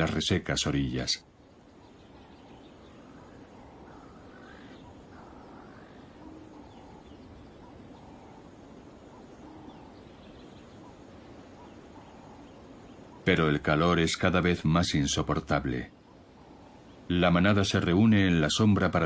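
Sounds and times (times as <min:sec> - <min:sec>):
low steady hiss: 0:00.0 - 0:19.0
soft bird calls: 0:00.0 - 0:19.0.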